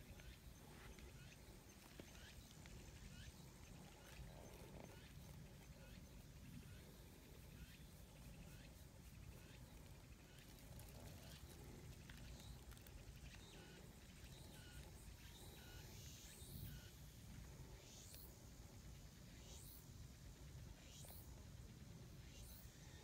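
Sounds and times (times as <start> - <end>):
distant bird chirps: 0.0 - 23.0.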